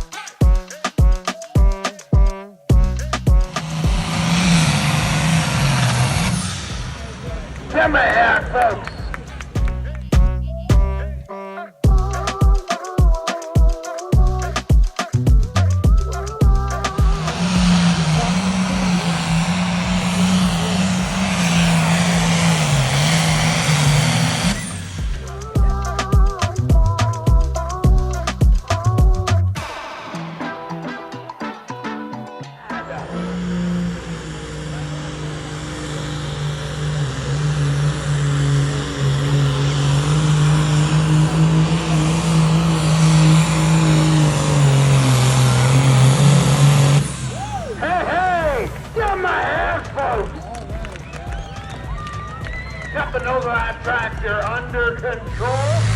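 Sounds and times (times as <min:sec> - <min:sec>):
vehicle engine running hard: 0:02.7 - 0:11.3, 0:11.9 - 0:12.4, 0:14.2 - 0:29.6, 0:32.8 - 0:55.9.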